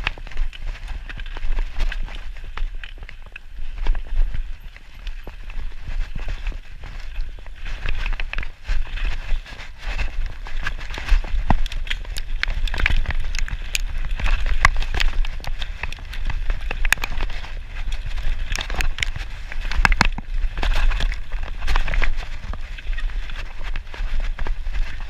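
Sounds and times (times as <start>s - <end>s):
bike rattling and clattering: 0.0s - 25.0s
tyres crunching over dirt: 0.0s - 25.0s
wind rumble on microphone: 0.0s - 25.0s.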